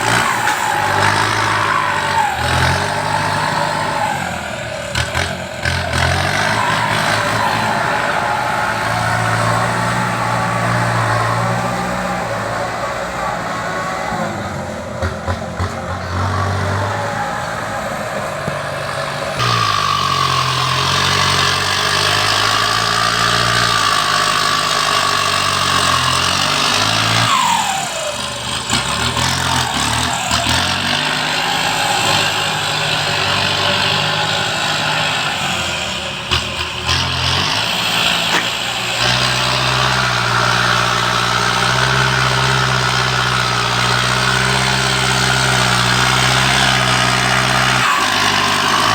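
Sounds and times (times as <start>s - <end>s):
heavy machinery engines running: 0.0s - 48.9s.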